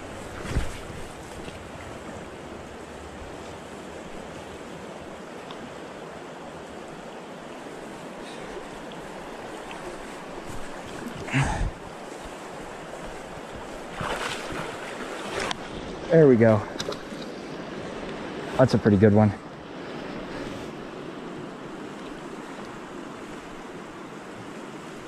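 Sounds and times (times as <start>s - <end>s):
river water flowing: 0.0s - 25.0s.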